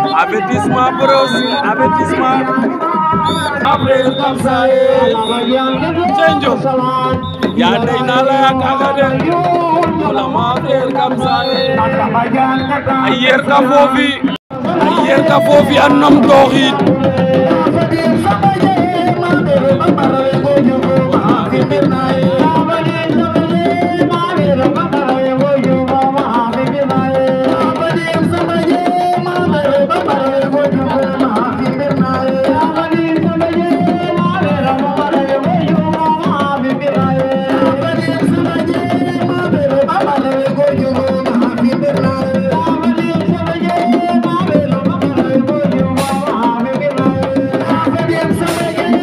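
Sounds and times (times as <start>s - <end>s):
hand drums playing fast rhythm: 0.0s - 49.0s
people singing: 0.0s - 49.0s.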